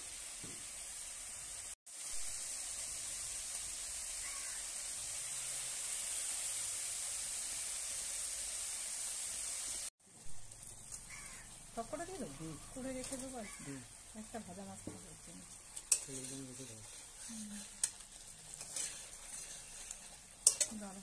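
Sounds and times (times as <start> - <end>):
masala sizzling in hot oil: 0.0 - 21.0.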